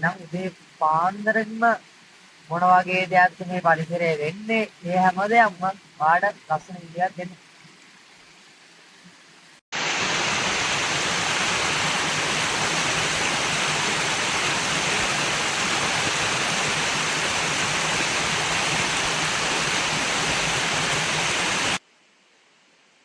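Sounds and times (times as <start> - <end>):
waterfall roaring: 0.0 - 9.0, 9.8 - 21.8
faint hiss: 0.0 - 23.0.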